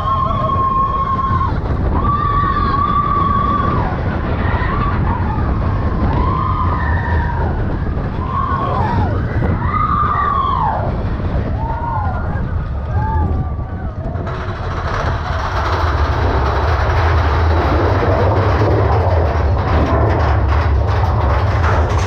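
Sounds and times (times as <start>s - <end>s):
riders screaming: 0.0s - 21.3s
roller coaster rumbling on track: 0.0s - 22.0s.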